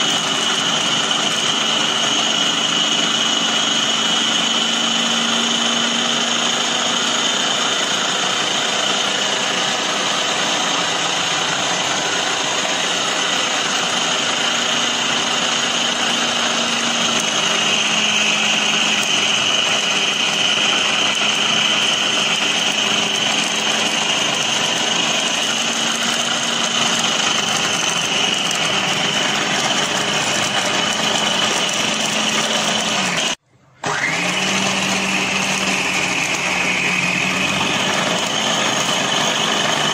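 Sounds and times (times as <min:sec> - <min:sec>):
food processor motor whining: 0:00.0 - 0:39.9.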